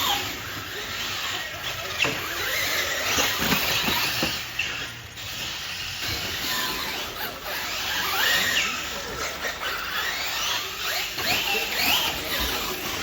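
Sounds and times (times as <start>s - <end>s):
electric rc truck motor whine: 0.0s - 13.0s.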